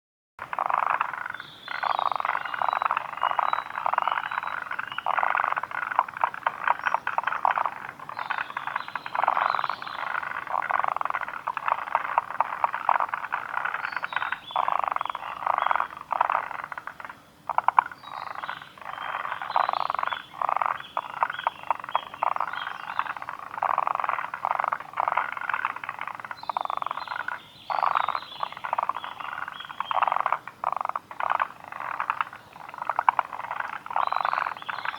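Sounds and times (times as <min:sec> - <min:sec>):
tree frogs croaking: 0:00.4 - 0:34.9.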